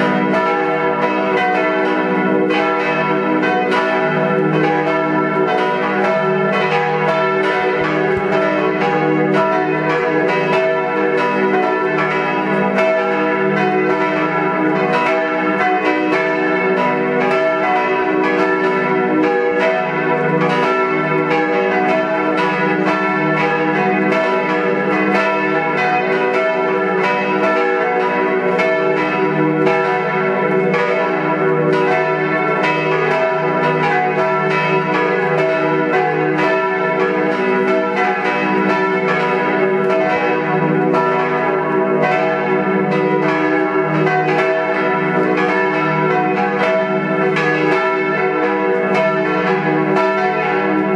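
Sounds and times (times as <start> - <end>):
church bells pealing: 0.0 - 50.9.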